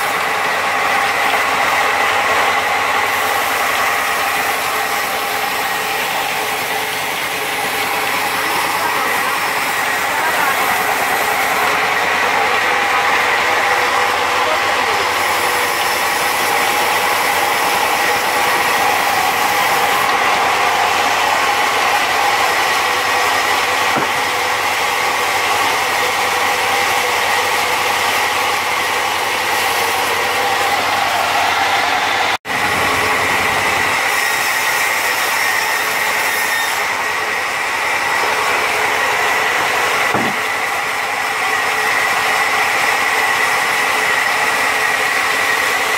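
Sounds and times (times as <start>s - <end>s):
band sawmill sawing log: 0.0s - 45.9s.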